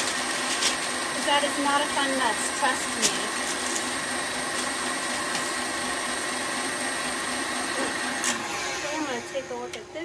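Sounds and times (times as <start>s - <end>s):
stand mixer running: 0.0s - 10.0s.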